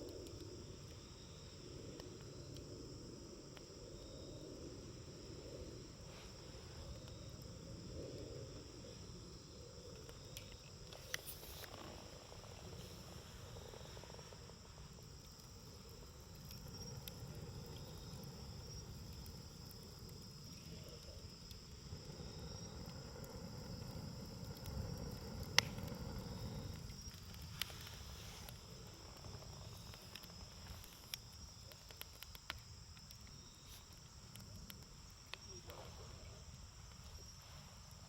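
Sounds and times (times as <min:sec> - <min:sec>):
campfire crackling: 0:00.0 - 0:38.0
crickets chirping: 0:00.0 - 0:38.0.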